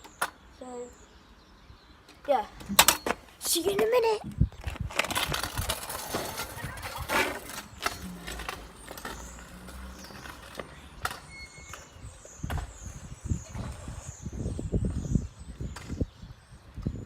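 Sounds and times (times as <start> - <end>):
scooter wheels rattling on pavement: 2.3 - 17.0.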